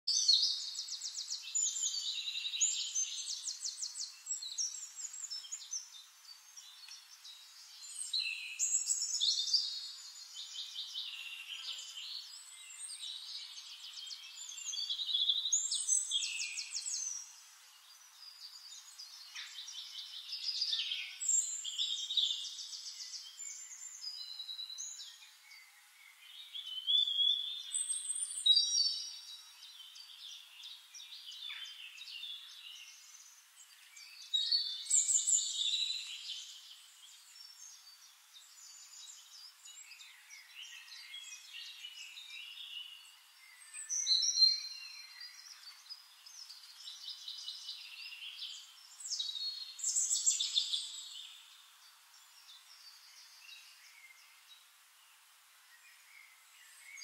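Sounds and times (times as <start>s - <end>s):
songbirds trilling and chirping: 0.0s - 57.0s.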